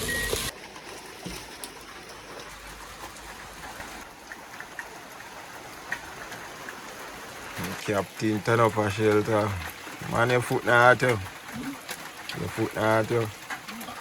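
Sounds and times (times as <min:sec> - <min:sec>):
water trickling and lapping: 0:00.0 - 0:14.0.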